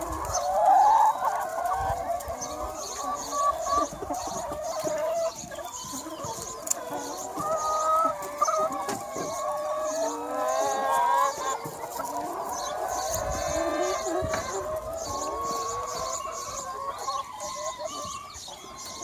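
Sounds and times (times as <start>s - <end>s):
hens clucking and calling: 0.0s - 19.0s.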